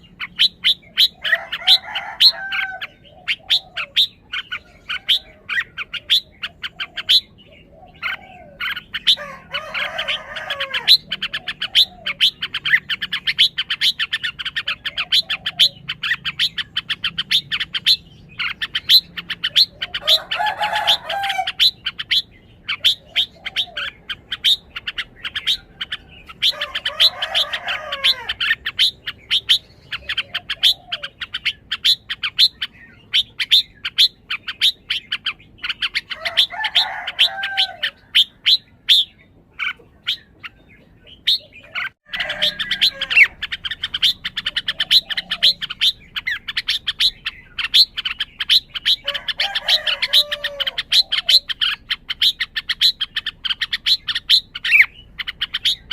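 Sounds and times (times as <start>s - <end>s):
bulbul warbling song: 0.0s - 55.9s.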